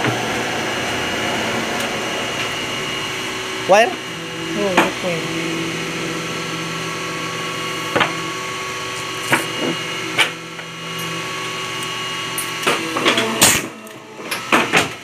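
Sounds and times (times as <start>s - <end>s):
paper cutter motor hum: 0.0s - 15.0s.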